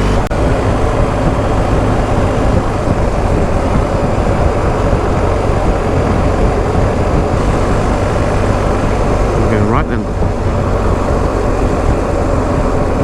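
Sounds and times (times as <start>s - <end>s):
motorcycle engine running: 0.0s - 13.0s
wind rushing on microphone: 0.0s - 13.0s.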